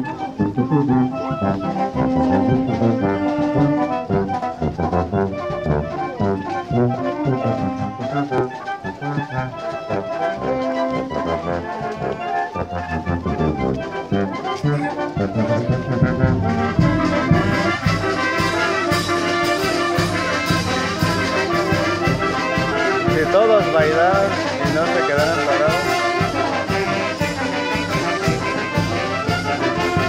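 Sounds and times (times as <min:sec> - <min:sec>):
brass band playing: 0:00.0 - 0:30.0
percussion beat: 0:00.0 - 0:30.0.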